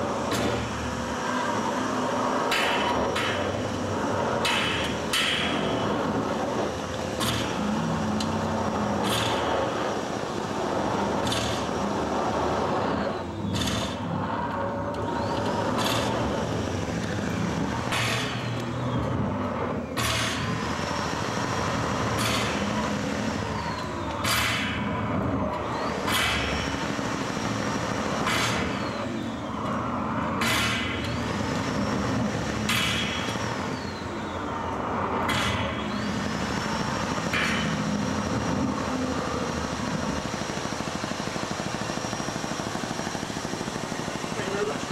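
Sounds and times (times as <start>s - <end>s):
dense roar of noise: 0.0s - 44.9s.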